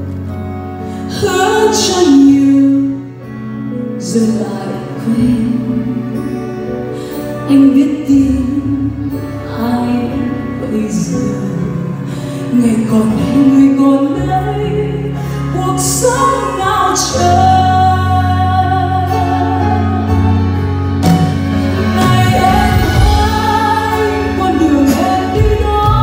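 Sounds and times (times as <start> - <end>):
live band playing: 0.0 - 26.0
woman singing into microphone: 1.1 - 3.4, 4.0 - 6.4, 7.3 - 20.6, 21.8 - 26.0.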